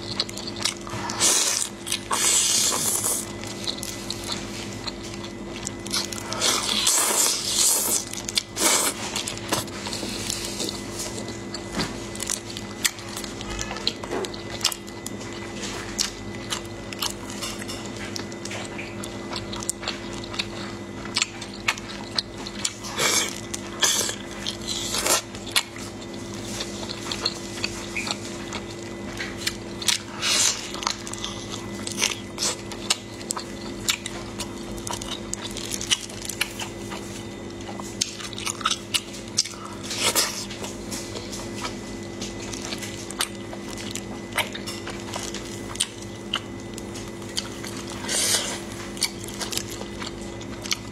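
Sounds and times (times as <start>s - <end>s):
chewing with wet mouth smacks: 0.0s - 50.9s.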